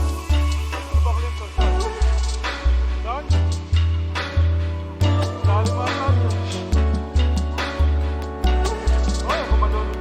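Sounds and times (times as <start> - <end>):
music with heavy bass line: 0.0 - 10.0.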